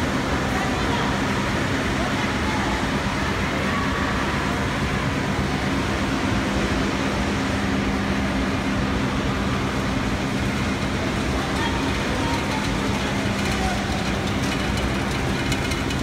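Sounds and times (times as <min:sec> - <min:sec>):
production line machine hum: 0:00.0 - 0:16.0.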